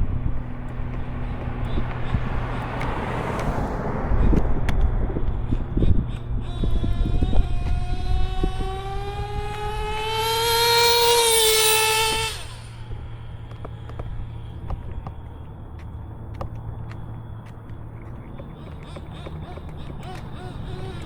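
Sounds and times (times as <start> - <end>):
high-pitched nitro engine whine: 0.0 - 16.0, 18.6 - 21.0.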